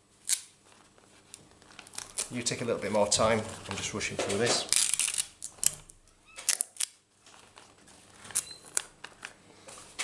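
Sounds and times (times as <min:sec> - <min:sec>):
stiff paper crinkling and tapping: 0:00.6 - 0:10.0.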